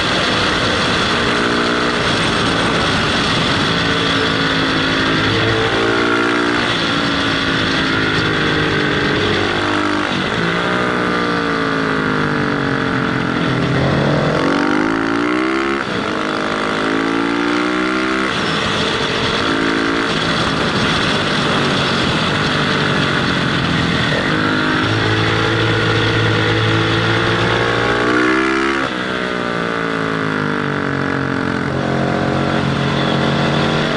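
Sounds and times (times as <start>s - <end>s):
wind rush on microphone: 0.0s - 17.0s, 17.6s - 33.9s
motorcycle engine revving: 0.0s - 33.9s.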